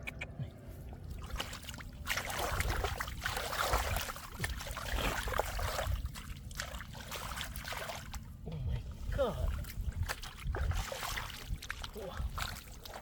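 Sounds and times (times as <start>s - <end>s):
floodwater splashing and sloshing: 0.5s - 13.0s.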